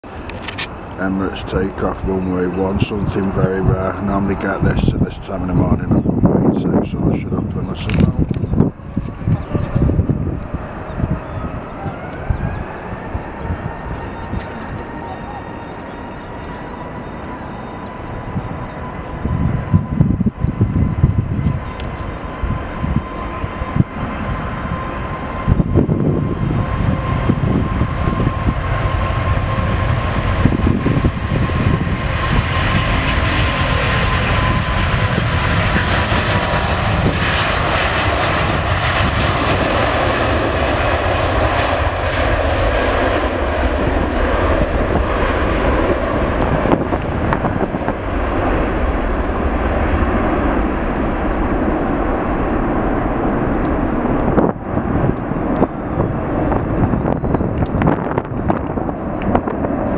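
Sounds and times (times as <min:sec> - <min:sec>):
jet engine roar: 0:00.0 - 0:59.9
jet engine whine: 0:00.0 - 0:59.9.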